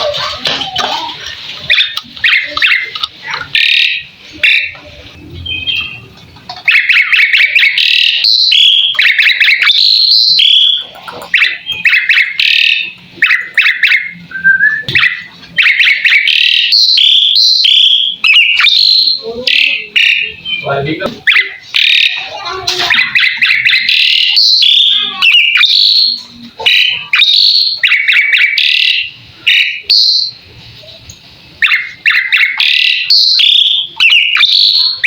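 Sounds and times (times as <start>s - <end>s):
bird singing whistles and chatters: 1.2s - 35.0s.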